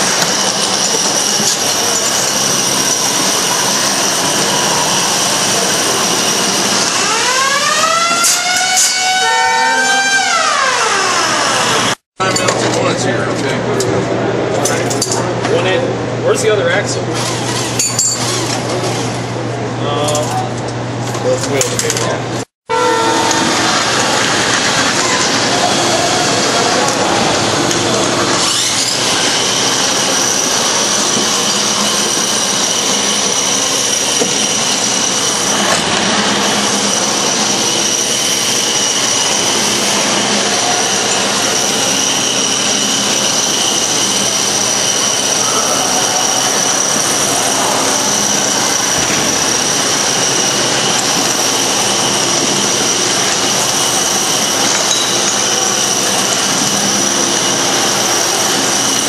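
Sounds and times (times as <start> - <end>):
electric motors whining: 0.0 - 12.0, 17.1 - 19.4, 22.7 - 59.0
loud mechanical hum: 0.0 - 59.0.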